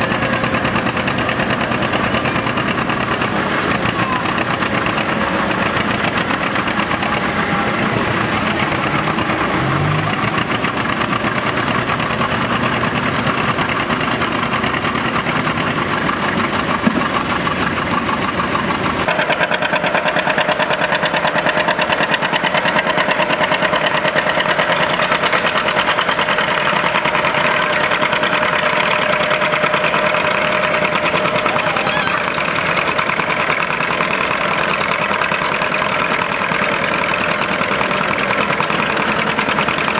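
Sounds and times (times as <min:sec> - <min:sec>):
tractor engine exhaust popping: 0:00.0 - 0:39.9.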